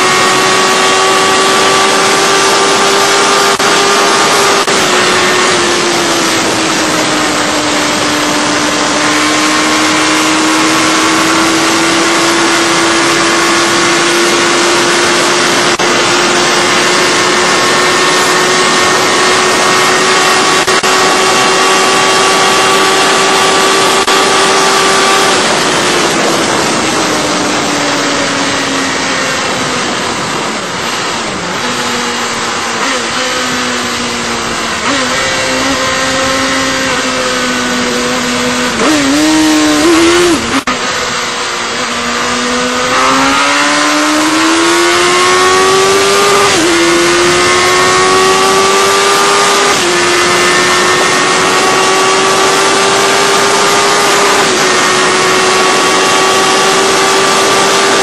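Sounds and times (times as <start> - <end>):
heavy wind rush: 0.0 - 58.0
motorcycle engine at high revs: 0.0 - 58.0.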